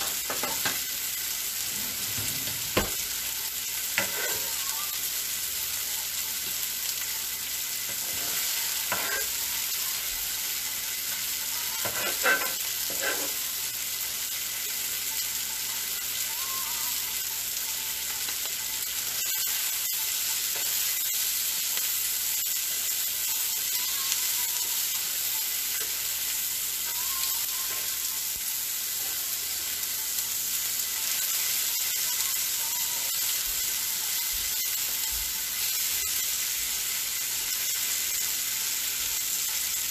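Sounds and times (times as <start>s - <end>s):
food sizzling in a griddle pan: 0.0s - 39.9s.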